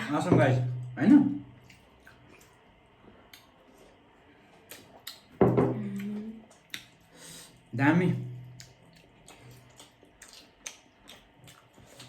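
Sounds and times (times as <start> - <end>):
soft chewing: 1.6 - 7.7, 8.4 - 12.0.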